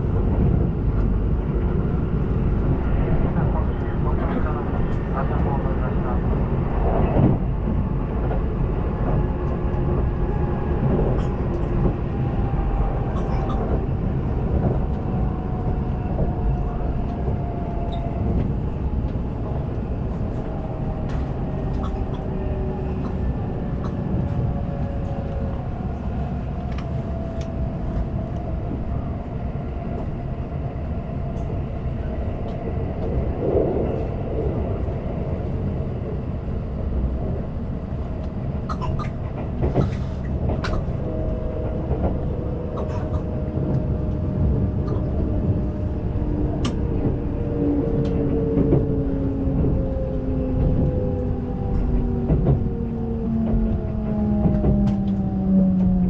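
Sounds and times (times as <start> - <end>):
faint train whine: 0.0 - 56.0
train wheels rumbling on rails: 0.0 - 56.0.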